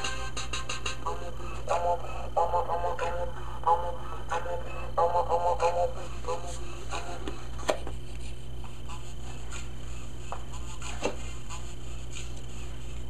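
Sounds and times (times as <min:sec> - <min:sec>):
faint music from speaker: 0:00.0 - 0:13.0
steady low hum: 0:00.0 - 0:13.0.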